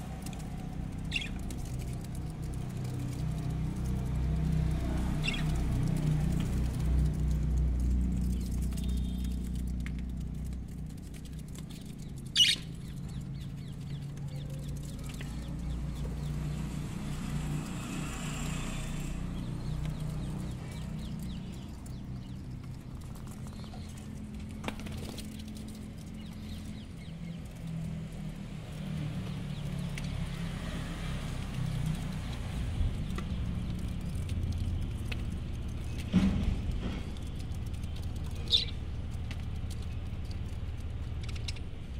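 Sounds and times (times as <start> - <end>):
wing flutters: 0.0 - 41.9.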